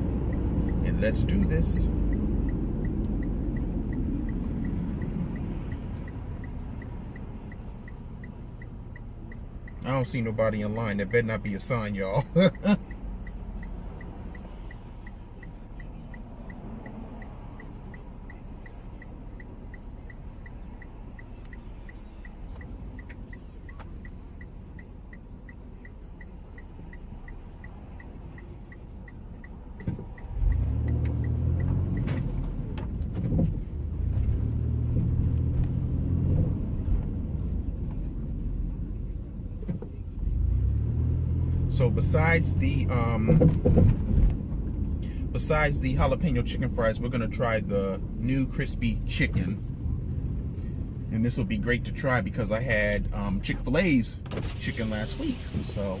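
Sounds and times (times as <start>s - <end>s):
car engine running: 0.0s - 56.0s
turn signal relay ticking: 0.0s - 56.0s.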